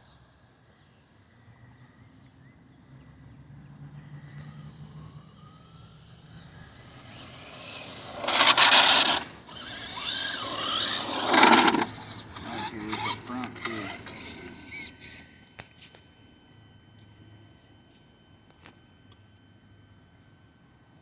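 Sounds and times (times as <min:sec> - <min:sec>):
electric motor whine: 0:04.2 - 0:21.0.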